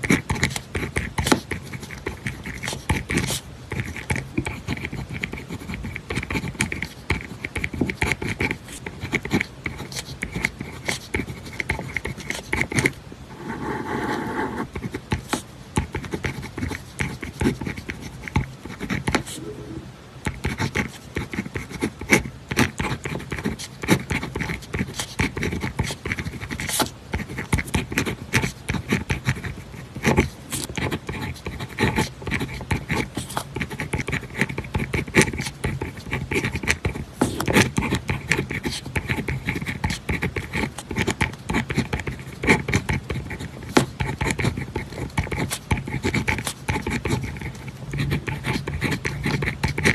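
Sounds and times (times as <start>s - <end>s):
faint steady hum: 0.0s - 49.9s
pen scratching on paper: 0.0s - 49.9s.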